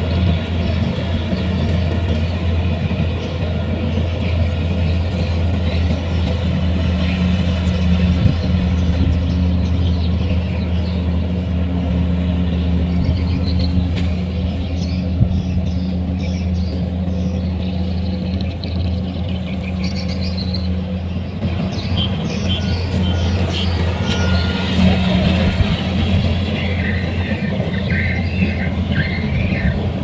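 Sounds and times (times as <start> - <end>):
diesel engine droning: 0.0 - 30.0
machinery noise: 0.0 - 30.0.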